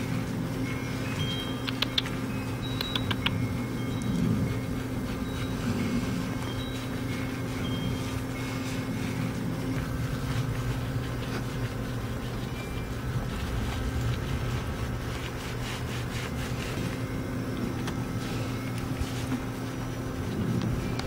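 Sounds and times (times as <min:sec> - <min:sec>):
faint clicks and rustles: 0:00.0 - 0:21.0
low motor hum: 0:00.0 - 0:21.0.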